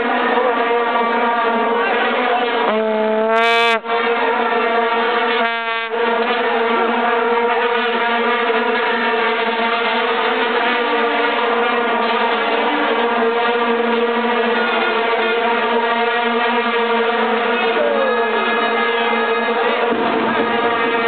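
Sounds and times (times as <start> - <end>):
close horn blast: 0.0 - 21.0
vuvuzelas droning: 0.0 - 21.0.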